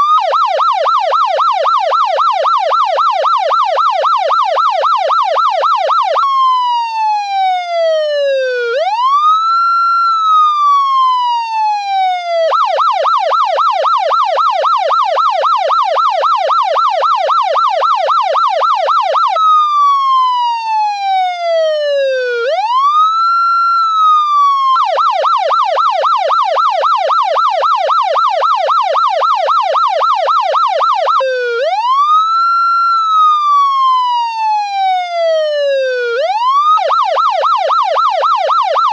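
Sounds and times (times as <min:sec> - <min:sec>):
police siren wailing and yelping: 0:00.0 - 0:38.9.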